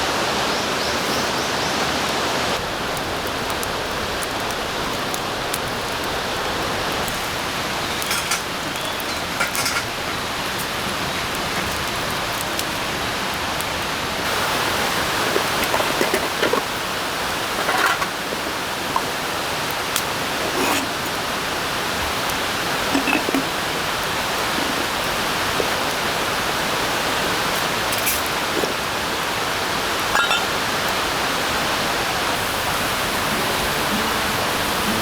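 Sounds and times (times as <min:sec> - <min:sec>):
rain falling in forest: 0:00.0 - 0:35.0.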